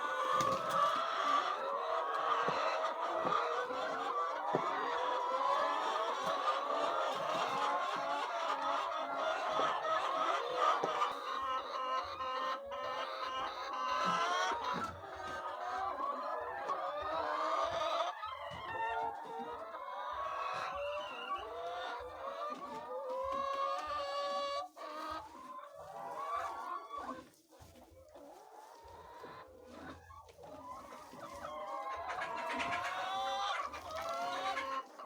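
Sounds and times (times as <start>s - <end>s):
chickens clucking: 0.0s - 35.0s.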